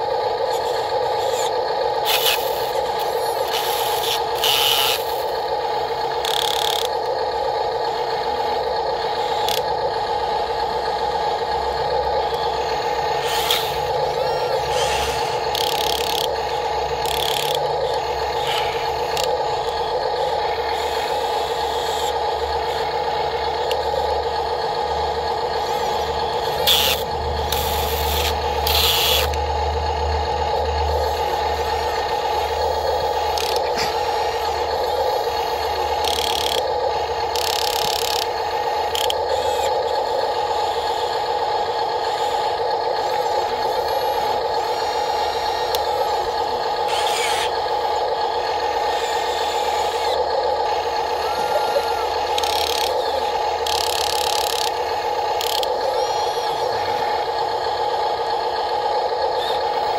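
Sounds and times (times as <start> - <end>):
electric motor whine: 0.0 - 59.9.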